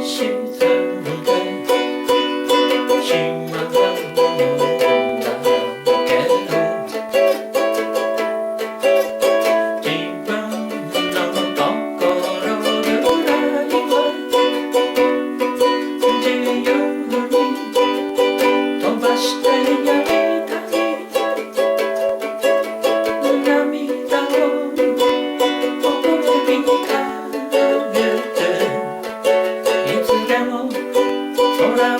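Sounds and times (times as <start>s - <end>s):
ukulele strumming chords: 0.0s - 31.9s.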